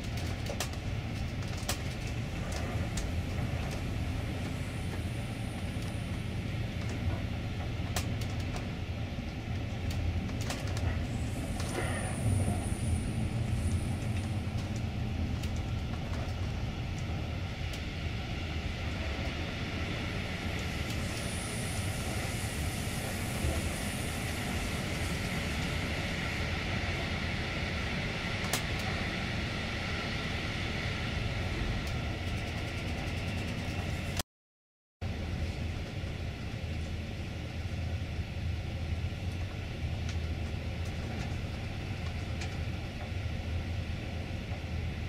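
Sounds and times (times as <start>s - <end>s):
train wheels rumbling on rails: 0.0s - 34.2s, 35.0s - 45.0s.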